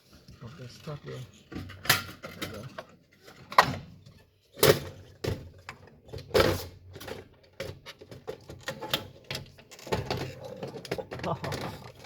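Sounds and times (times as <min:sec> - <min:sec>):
parts clattering and knocking: 0:00.1 - 0:12.0.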